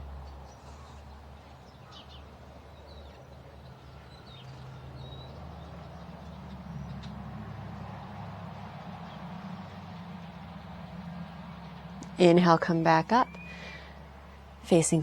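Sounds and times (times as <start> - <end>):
small birds chirping: 0.2 - 14.6.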